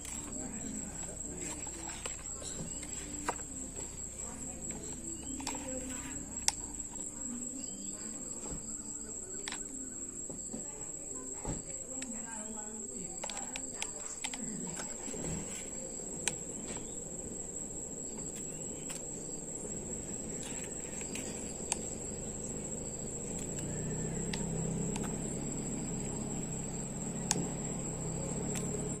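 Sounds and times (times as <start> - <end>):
insects droning: 0.0 - 29.0
low steady hum: 0.0 - 29.0.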